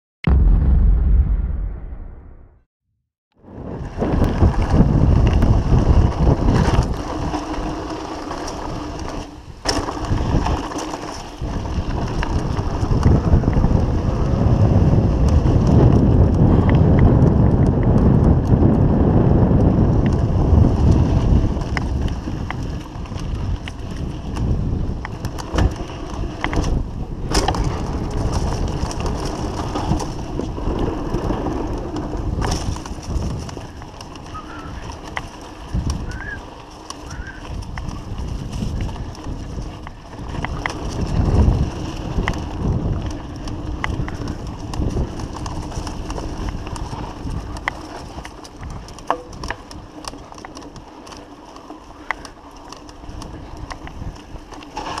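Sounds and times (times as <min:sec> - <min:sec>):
bike tyres rumbling on gravel: 0:03.4 - 0:55.0
wind buffeting microphone: 0:03.4 - 0:55.0.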